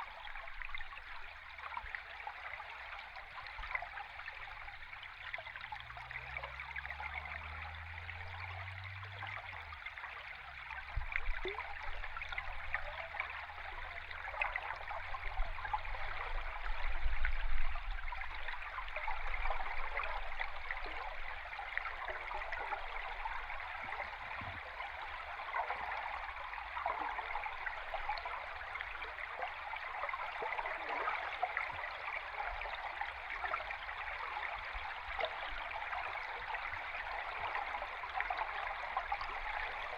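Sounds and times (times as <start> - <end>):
underwater stream fizzing and bubbling: 0.0 - 39.9.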